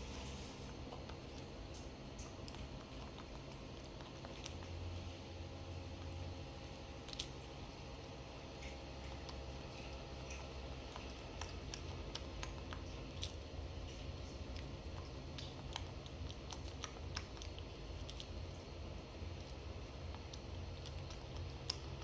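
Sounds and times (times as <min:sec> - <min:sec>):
monkey nibbling cake: 0:00.0 - 0:22.0
steady low hum: 0:00.0 - 0:22.0.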